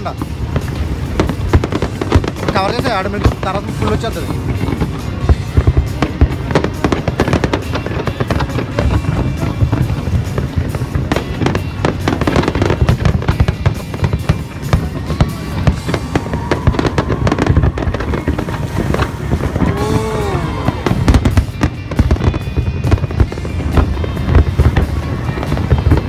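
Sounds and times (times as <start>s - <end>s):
fireworks bangs and crackles: 0.0s - 26.0s
music playing: 0.0s - 26.0s.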